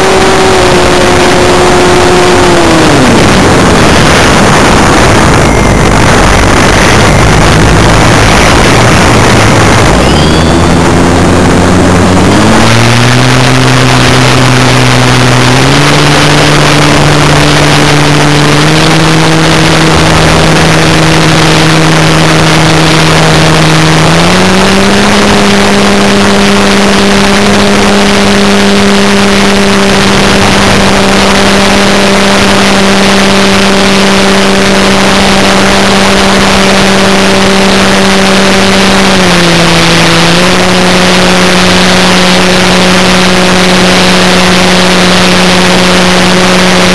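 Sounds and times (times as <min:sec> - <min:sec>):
electric motor and propeller drone: 0:00.0 - 0:46.9
rush of air: 0:00.0 - 0:46.9.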